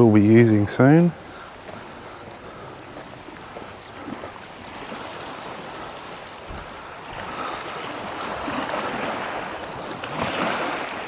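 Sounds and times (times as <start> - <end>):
waves washing on rocky shore: 0.9 - 11.0.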